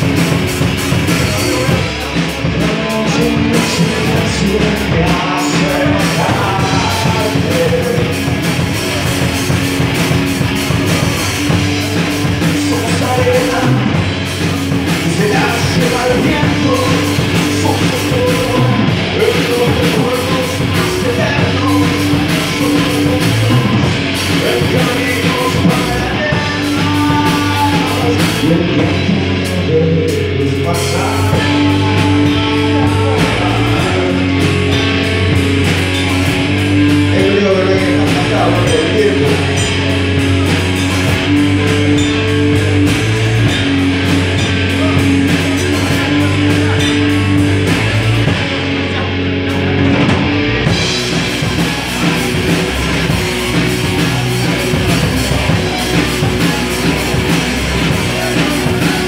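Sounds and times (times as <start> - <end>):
drum kit: 0.0 - 59.0
electric guitar: 0.0 - 59.0
person singing: 0.0 - 59.0.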